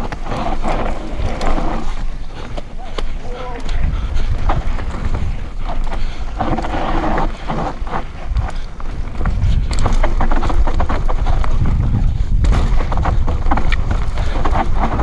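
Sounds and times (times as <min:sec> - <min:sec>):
bike rattling on dirt trail: 0:00.0 - 0:15.0
wind buffeting microphone: 0:00.0 - 0:15.0.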